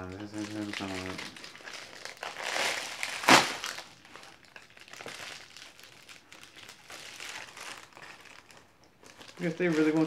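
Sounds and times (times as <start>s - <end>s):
plastic crinkling: 0.0s - 10.0s
plastic mailer tearing: 0.2s - 10.0s.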